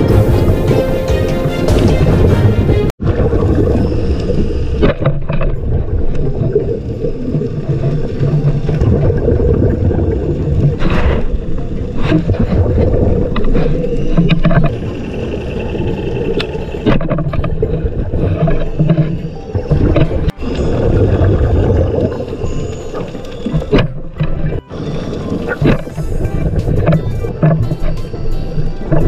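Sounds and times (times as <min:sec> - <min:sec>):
muffled underwater rumble: 0:01.7 - 0:29.0.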